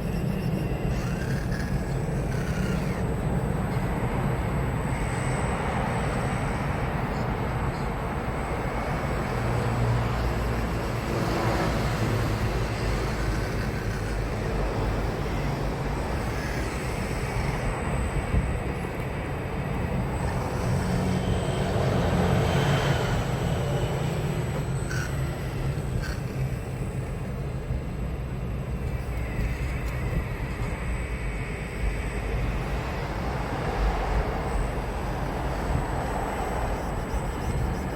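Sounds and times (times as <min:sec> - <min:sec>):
faint rising and falling whines: 0:00.0 - 0:37.9
toy excavator motor and pump: 0:00.0 - 0:37.9.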